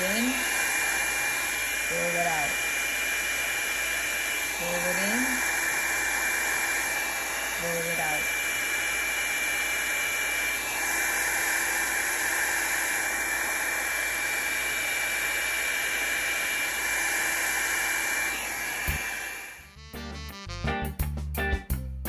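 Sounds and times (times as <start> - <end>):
hair dryer running: 0.0 - 20.5.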